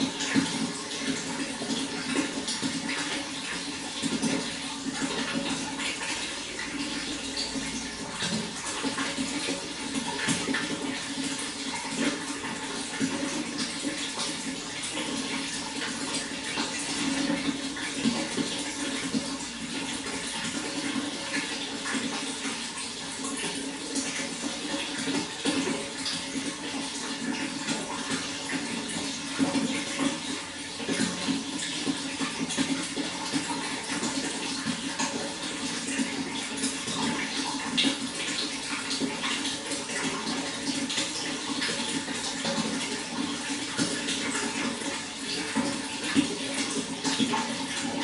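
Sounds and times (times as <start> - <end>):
running water splashing: 0.0 - 48.0.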